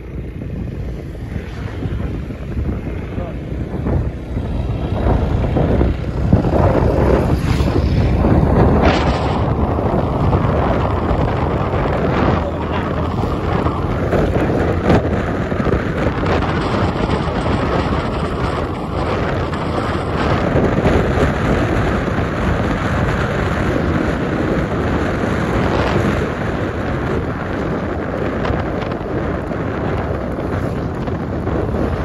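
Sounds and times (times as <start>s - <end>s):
vehicle running noise: 0.0s - 32.0s
wind rumble on microphone: 0.0s - 32.0s.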